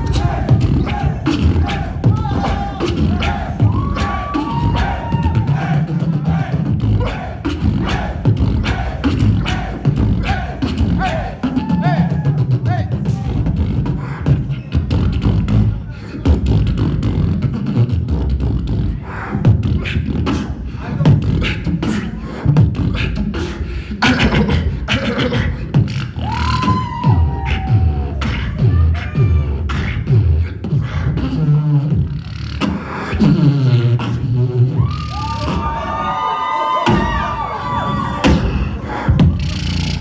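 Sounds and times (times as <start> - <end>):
pitched vocal tones: 0.0 - 36.0
beatboxing through a microphone: 0.0 - 40.0.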